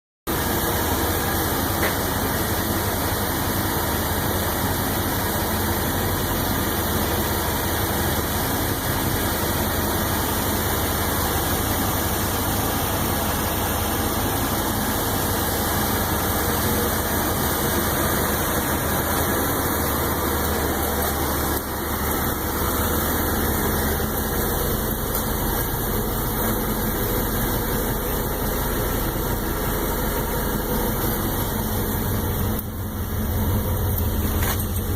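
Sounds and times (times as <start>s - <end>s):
pickup truck engine idling: 0.3s - 34.9s.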